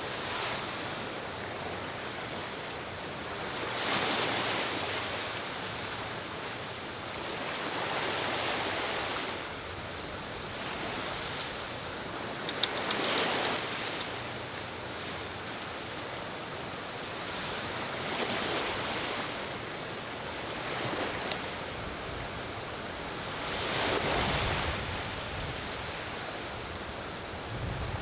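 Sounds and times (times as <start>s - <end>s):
sea waves breaking on shore: 0.0s - 28.0s
wind: 0.0s - 28.0s.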